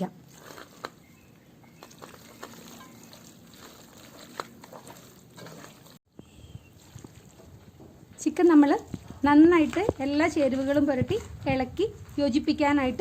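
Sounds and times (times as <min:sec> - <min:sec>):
soft squelches of stirring: 0:00.0 - 0:13.0.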